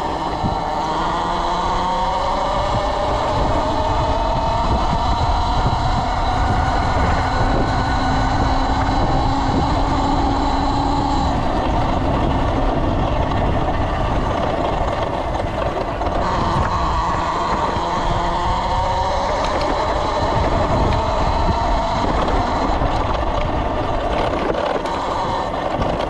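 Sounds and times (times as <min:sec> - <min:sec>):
faint electric motor whine: 0:00.0 - 0:26.0
road and wind noise: 0:00.0 - 0:26.0.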